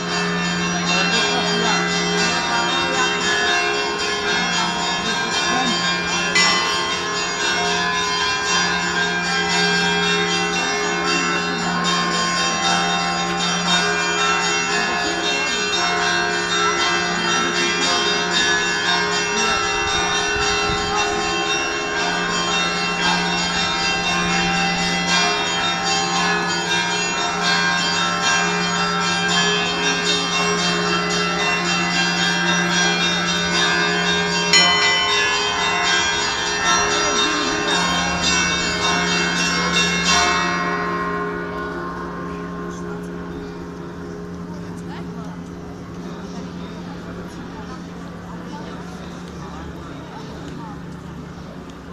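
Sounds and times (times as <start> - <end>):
low bell humming: 0.0 - 49.6
church bells ringing: 0.0 - 51.9.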